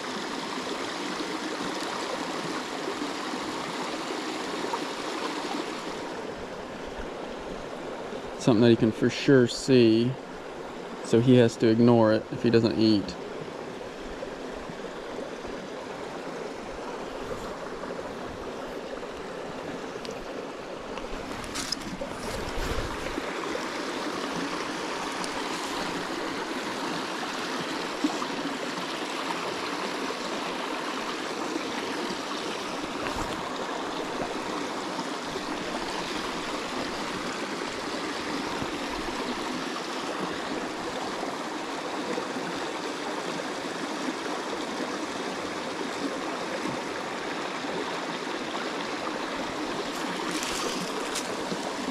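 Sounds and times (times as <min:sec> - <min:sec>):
creek flowing over stones: 0:00.0 - 0:51.9.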